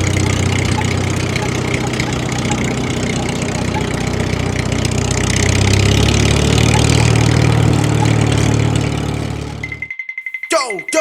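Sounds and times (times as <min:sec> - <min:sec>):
small tractor engine running: 0:00.0 - 0:10.0.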